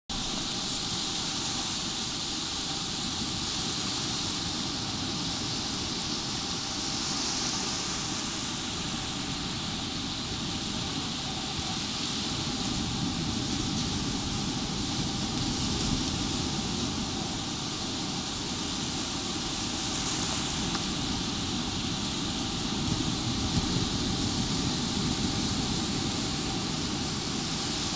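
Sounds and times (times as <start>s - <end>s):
small waves washing up a beach: 0.1s - 27.9s
wind rumble on microphone: 0.1s - 27.9s.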